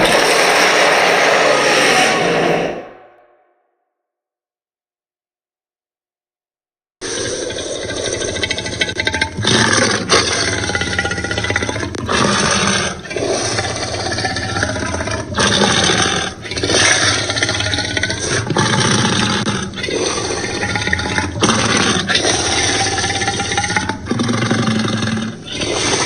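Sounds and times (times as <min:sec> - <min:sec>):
dinosaur roars and growls: 0:00.0 - 0:03.3, 0:07.0 - 0:26.0.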